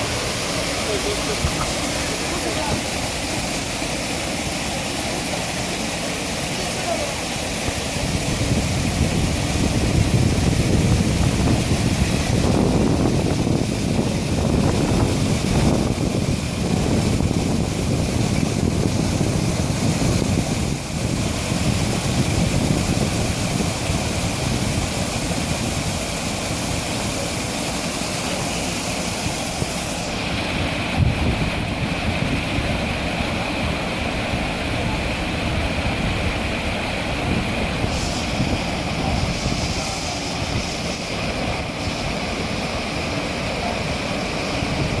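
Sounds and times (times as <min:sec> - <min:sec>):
water pouring down waterfall: 0:00.0 - 0:45.0.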